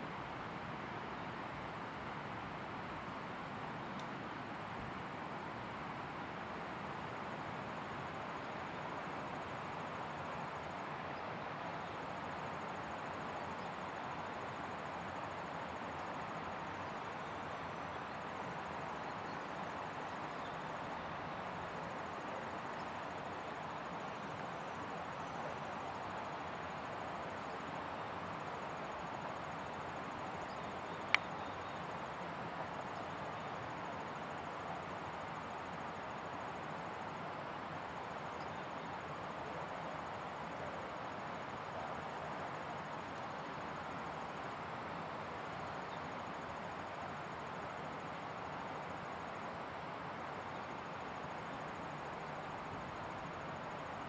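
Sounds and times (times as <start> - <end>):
outdoor background hiss: 0.0 - 54.0
faint high insect buzz: 6.6 - 54.0.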